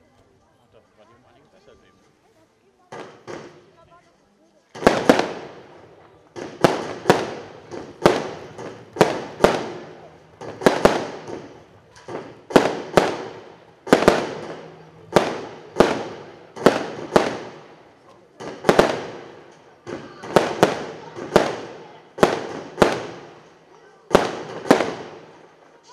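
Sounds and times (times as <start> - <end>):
fireworks bursting: 2.9 - 3.9, 4.7 - 25.9.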